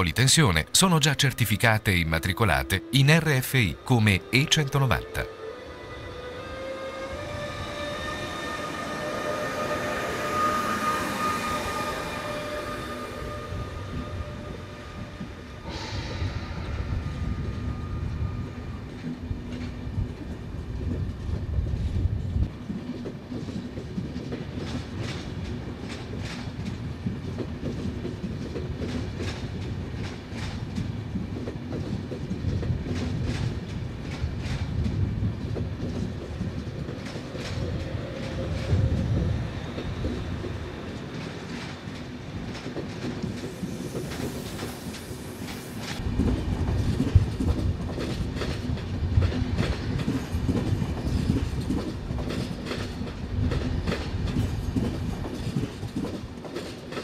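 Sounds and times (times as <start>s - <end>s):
train rumbling past: 0.0s - 57.0s
electric locomotive whine: 3.7s - 57.0s.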